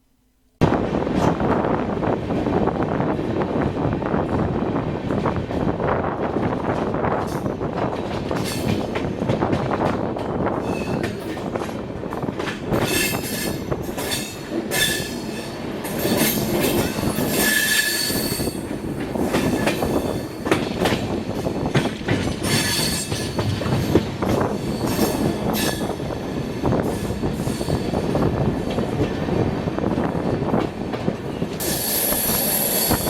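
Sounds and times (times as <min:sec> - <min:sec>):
train wheels clattering on rails: 0:00.6 - 0:33.0.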